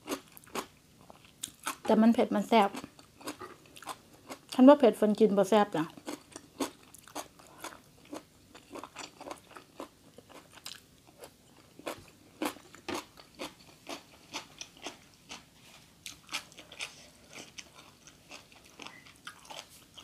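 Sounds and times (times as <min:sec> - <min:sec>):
person chewing crunchy food: 0:00.0 - 0:01.8, 0:02.7 - 0:04.6, 0:05.9 - 0:20.0.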